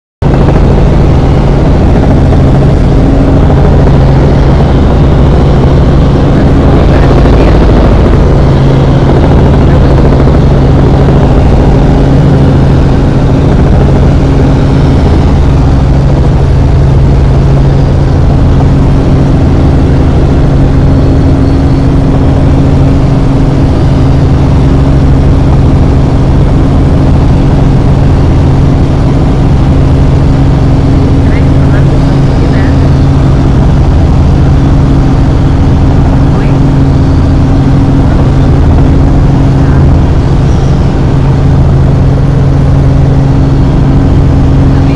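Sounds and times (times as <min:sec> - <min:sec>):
helicopter engine and rotor: 0:00.2 - 0:44.9.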